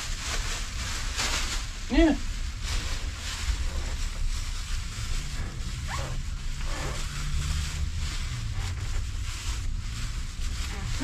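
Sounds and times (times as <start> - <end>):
low steady rumble: 0.0 - 11.0
plastic poncho crinkling: 0.0 - 11.0.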